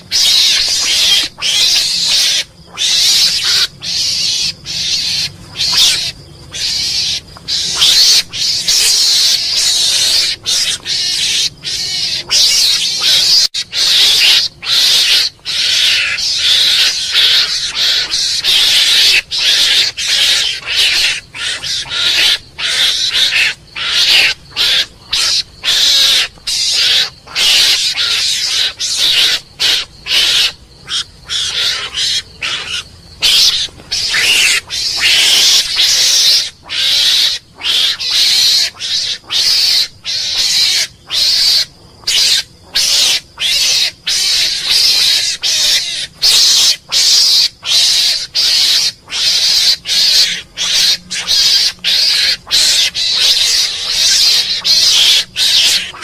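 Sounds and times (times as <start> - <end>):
mongoose chattering squeals: 0.0 - 56.0.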